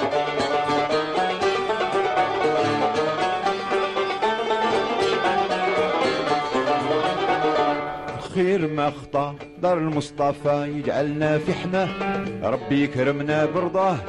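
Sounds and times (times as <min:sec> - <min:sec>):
plucked lutes playing fast melody: 0:00.0 - 0:14.0.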